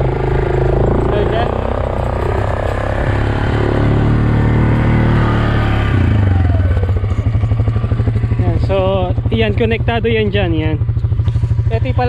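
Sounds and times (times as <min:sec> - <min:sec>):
motorbike engine revving and idling: 0:00.0 - 0:12.0.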